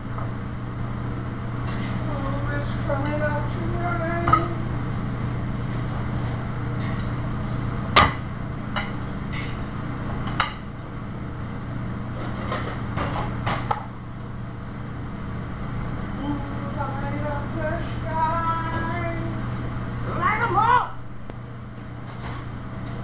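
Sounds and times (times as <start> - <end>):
low kitchen hum: 0.0 - 23.0.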